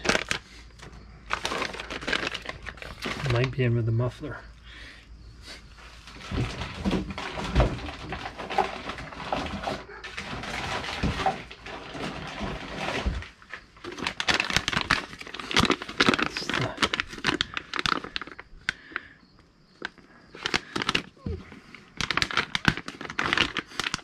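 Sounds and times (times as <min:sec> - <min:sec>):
plastic bags crinkling: 0:00.0 - 0:03.8, 0:05.8 - 0:19.1, 0:19.8 - 0:24.0.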